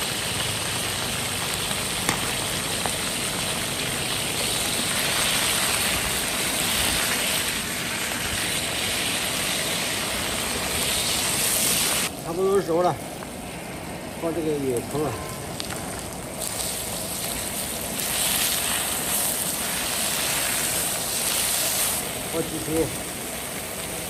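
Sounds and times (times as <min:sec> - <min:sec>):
peppers sizzling in hot oil: 0:00.0 - 0:12.9, 0:13.5 - 0:24.0.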